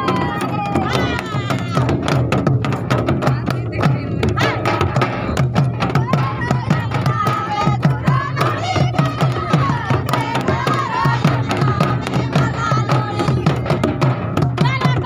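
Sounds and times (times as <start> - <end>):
group of voices singing: 0.0 - 2.0, 4.2 - 15.0
barrel drums beating: 0.0 - 15.0.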